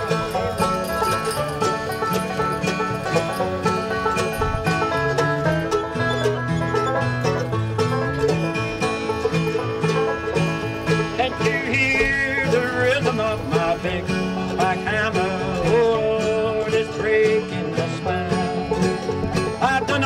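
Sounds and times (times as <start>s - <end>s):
bluegrass string band playing: 0.0s - 20.0s.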